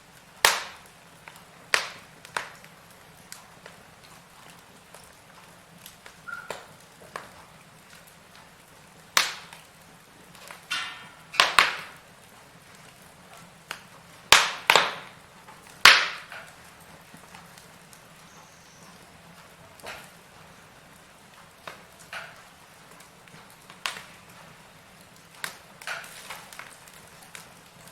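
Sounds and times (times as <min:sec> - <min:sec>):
faint steady hiss: 0:00.0 - 0:27.9
firewood crackling and popping: 0:00.0 - 0:27.9.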